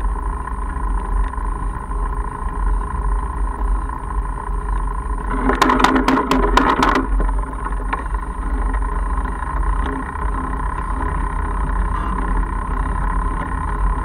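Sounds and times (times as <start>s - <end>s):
bike tyres rumbling on gravel: 0.0s - 14.0s
faint constant whine: 0.0s - 14.0s
wind: 0.0s - 14.0s.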